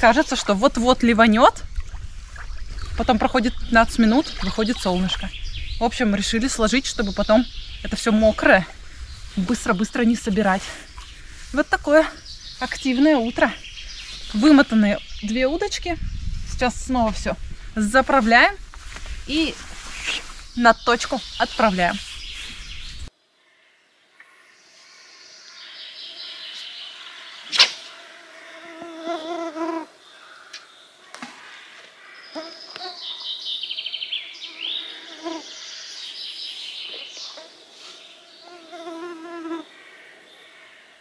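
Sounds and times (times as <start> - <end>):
birds singing and trilling: 0.0 - 18.6, 19.3 - 23.1, 24.2 - 28.0, 30.1 - 38.9.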